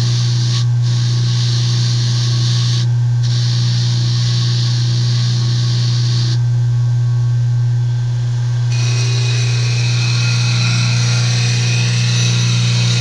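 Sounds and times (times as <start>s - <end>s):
motor with wire brush humming: 0.0s - 7.3s, 8.6s - 13.0s.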